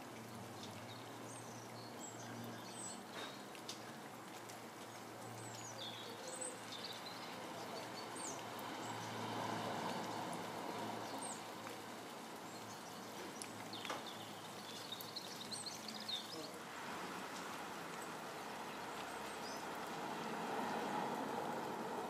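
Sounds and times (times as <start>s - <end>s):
rain on foliage: 0.0s - 22.0s.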